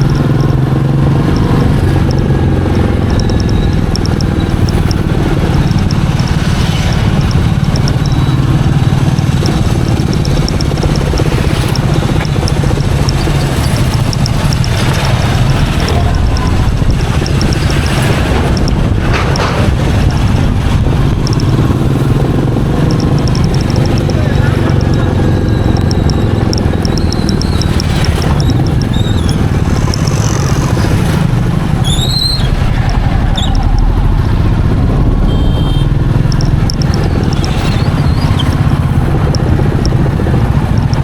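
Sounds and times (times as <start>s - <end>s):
faint fast ticking: 0.0s - 41.0s
motorcycle engine running: 0.0s - 41.0s.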